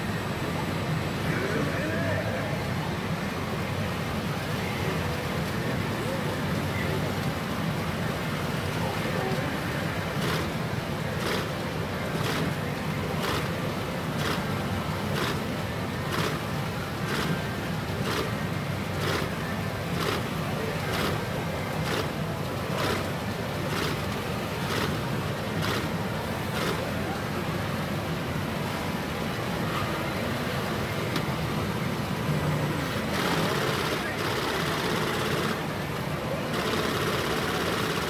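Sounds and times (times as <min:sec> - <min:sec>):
pachinko machines rushing noise: 0:00.0 - 0:38.0.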